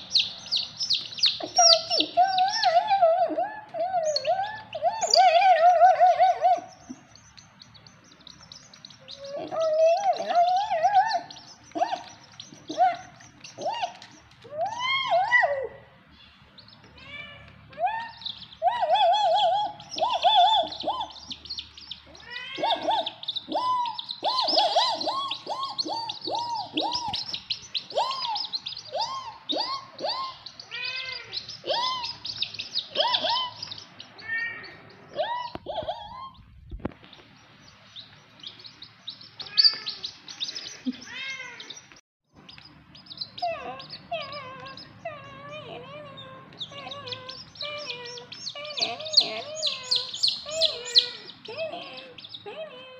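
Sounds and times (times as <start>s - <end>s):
chicks peeping: 0.0s - 52.9s.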